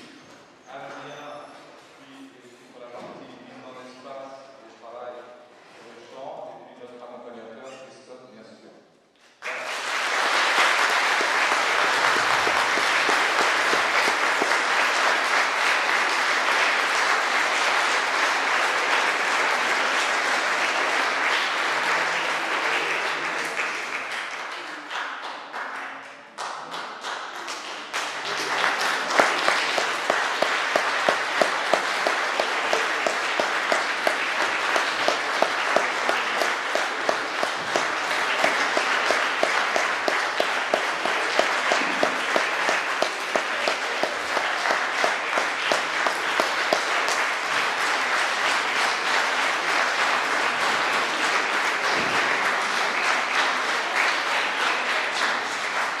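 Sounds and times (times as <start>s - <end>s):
audience applause: 9.4s - 56.0s
rhythmic clapping in unison: 9.4s - 56.0s.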